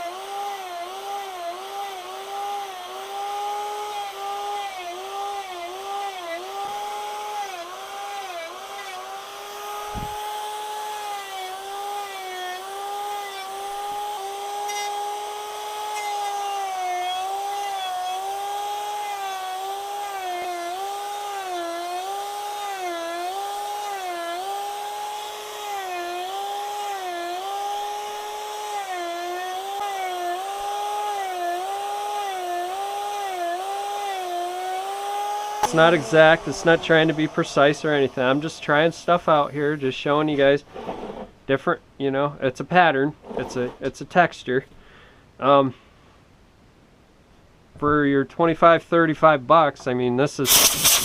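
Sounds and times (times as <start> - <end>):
angle grinder cutting wood: 0.0 - 41.4, 43.2 - 43.9, 49.8 - 51.0.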